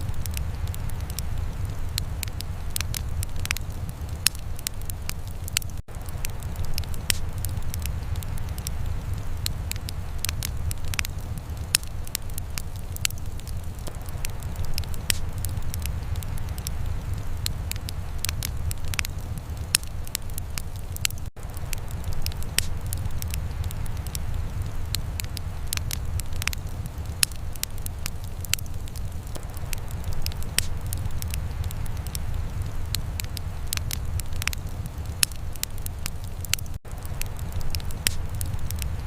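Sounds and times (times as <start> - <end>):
low fire rumble: 0.0 - 39.0
sharp pops of fire: 0.0 - 39.0
wood fire crackling: 0.0 - 39.0.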